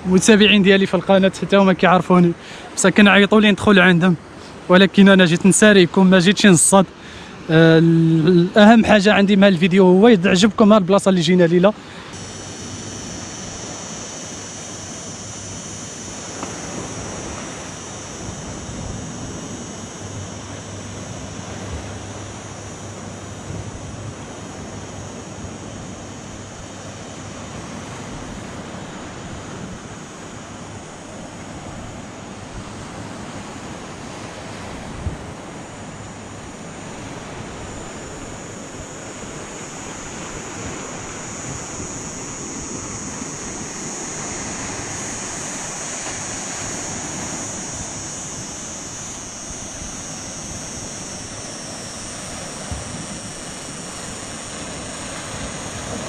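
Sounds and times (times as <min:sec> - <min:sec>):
surf on a rocky shore: 0:00.0 - 0:56.0.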